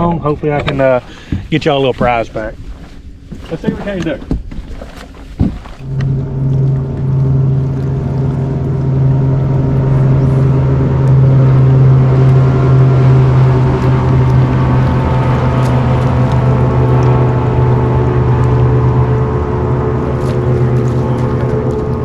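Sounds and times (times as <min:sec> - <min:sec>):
outboard motor humming: 0:00.0 - 0:22.0.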